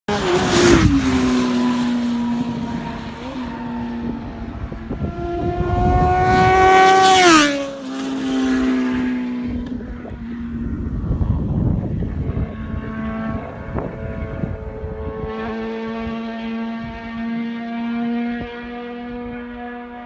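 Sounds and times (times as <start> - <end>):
motorcycles riding past: 0.1 - 20.0.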